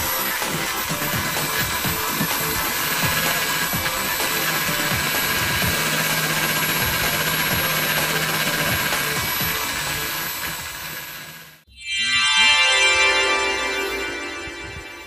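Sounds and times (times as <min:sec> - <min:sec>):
angle grinder polishing metal: 0:00.0 - 0:12.5.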